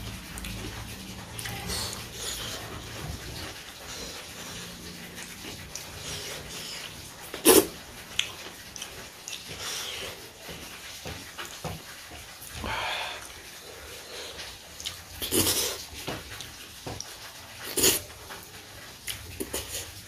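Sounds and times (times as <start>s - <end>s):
chewing and wet mouth noises: 0.0s - 20.0s.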